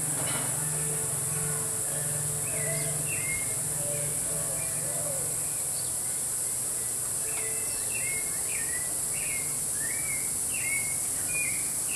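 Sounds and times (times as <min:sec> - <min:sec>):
high-pitched insect drone: 0:00.5 - 0:10.2.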